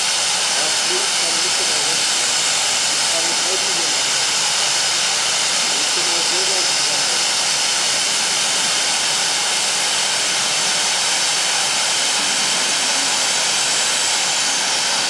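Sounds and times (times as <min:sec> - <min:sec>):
pyrotechnic fountain hissing: 0:00.0 - 0:15.0.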